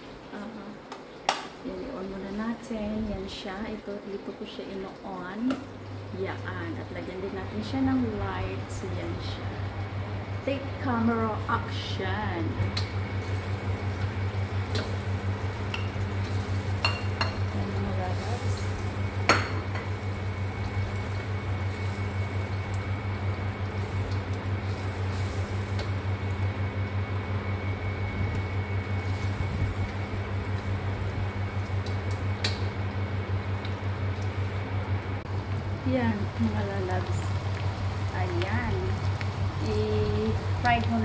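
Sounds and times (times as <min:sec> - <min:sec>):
onions frying in oil: 0:00.0 - 0:41.0
range hood fan humming: 0:00.0 - 0:41.0.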